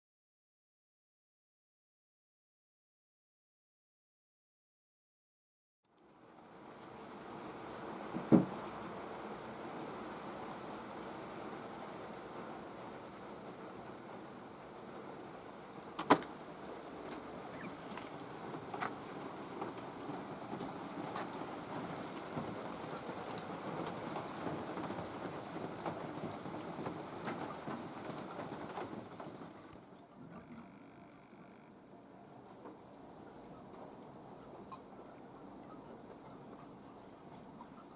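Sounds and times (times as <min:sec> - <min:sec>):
steady rain falling: 0:05.9 - 0:37.9.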